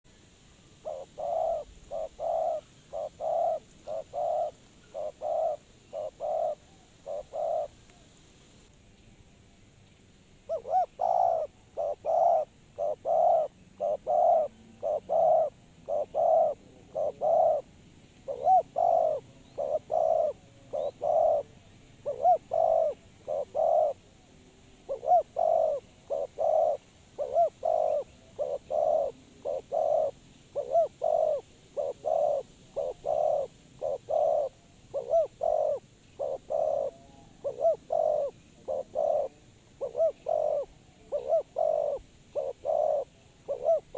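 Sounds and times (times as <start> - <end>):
dove cooing: 0.8 - 8.1, 10.5 - 24.1, 24.8 - 43.9.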